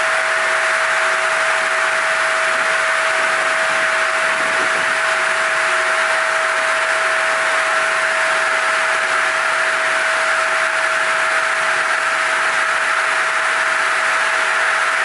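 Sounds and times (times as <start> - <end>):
sawmill running with steady whir: 0.0 - 15.0.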